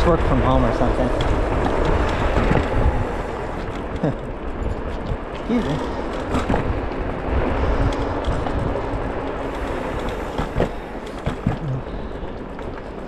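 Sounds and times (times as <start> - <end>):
tyres rumbling and rushing air: 0.0 - 13.0.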